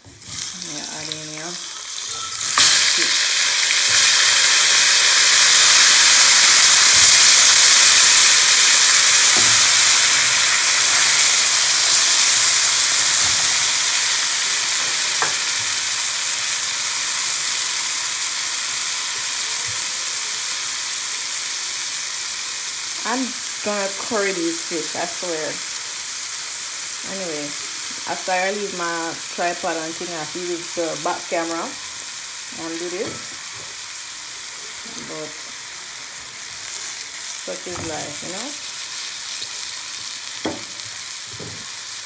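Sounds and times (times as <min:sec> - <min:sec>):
fish sizzling in hot oil: 0:00.0 - 0:42.0.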